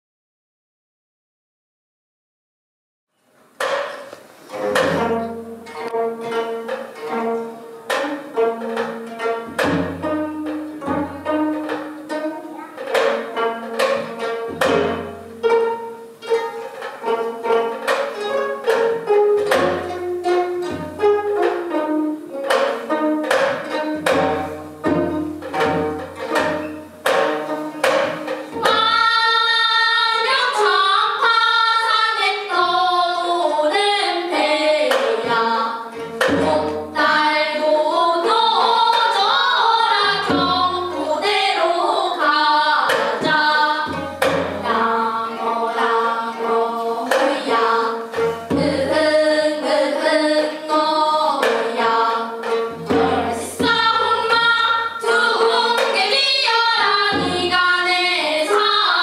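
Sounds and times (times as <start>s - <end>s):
plucked zithers: 3.6s - 30.8s, 34.9s - 59.0s
young voices singing together: 3.6s - 59.0s.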